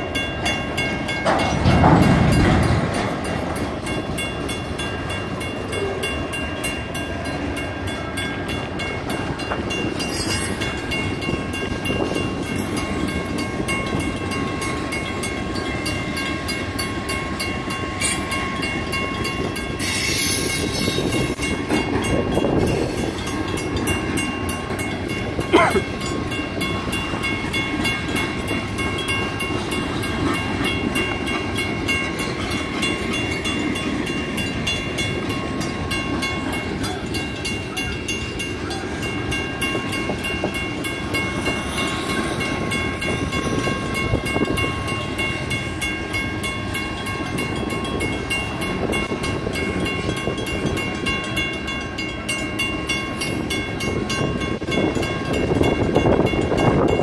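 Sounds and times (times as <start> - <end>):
crossing signal bells ringing: 0.0 - 57.0
train wheels clattering on rails: 0.0 - 57.0.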